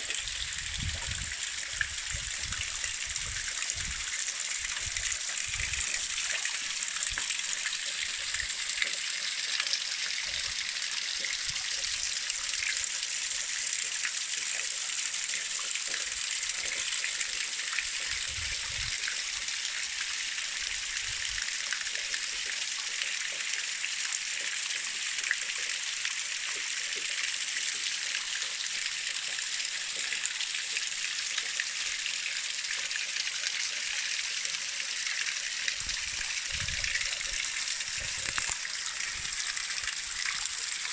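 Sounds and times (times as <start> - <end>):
waterfall pouring: 0.0 - 40.9.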